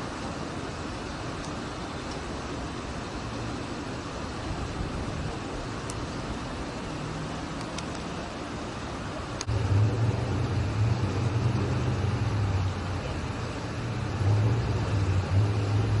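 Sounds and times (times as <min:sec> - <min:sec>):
low vehicle rumble: 0:00.0 - 0:16.0
street noise: 0:00.0 - 0:16.0.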